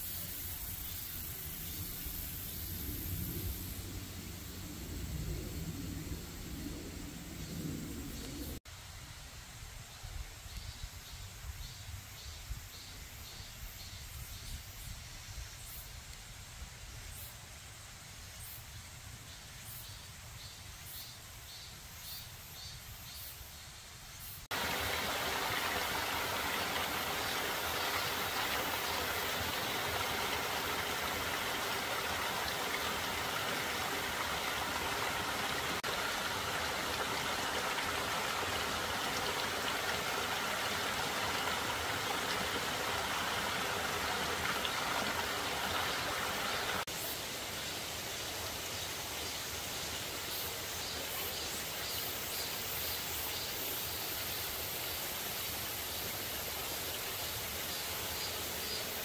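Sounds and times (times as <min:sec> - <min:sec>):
stream water running: 0:00.0 - 0:18.6, 0:24.2 - 0:59.0.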